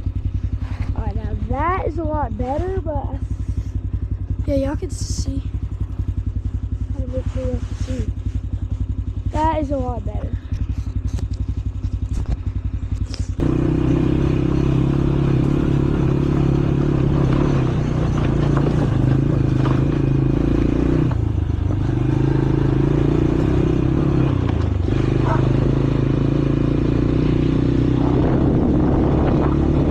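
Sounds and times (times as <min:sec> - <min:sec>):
atv engine putting: 0:00.0 - 0:29.9.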